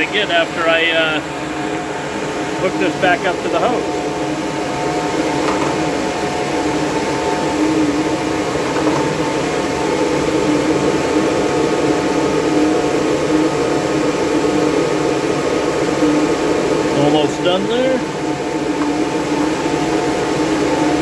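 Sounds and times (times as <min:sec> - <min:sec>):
cooling fans whirring: 0:00.0 - 0:21.0
humming tones: 0:00.0 - 0:21.0.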